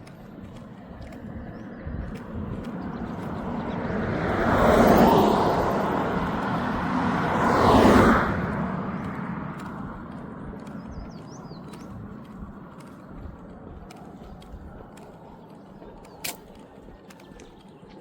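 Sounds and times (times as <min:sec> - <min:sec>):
vehicles passing close by: 0:00.0 - 0:18.0.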